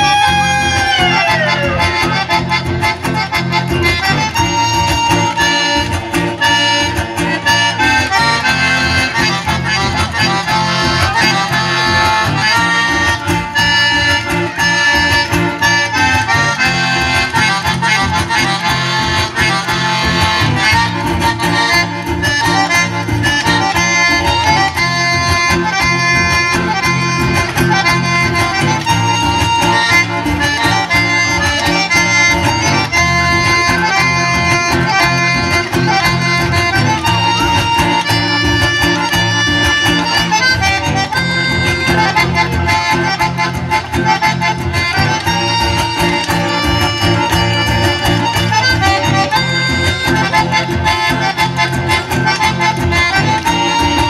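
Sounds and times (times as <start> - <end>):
button accordion melody: 0.0 - 54.0
strummed acoustic guitars: 0.0 - 54.0.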